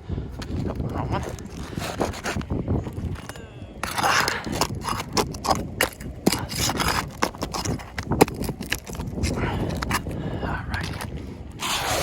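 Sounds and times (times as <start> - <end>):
shingles scraping: 0.4 - 10.2, 10.8 - 12.0.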